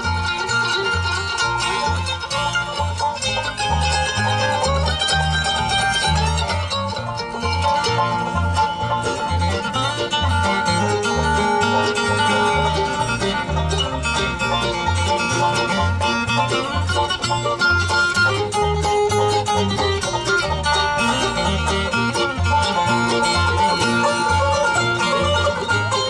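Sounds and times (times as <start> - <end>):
acoustic guitar picking: 0.0 - 26.0
banjo: 0.0 - 26.0
mandolin picking: 0.0 - 26.0
steady bass notes: 0.0 - 26.0.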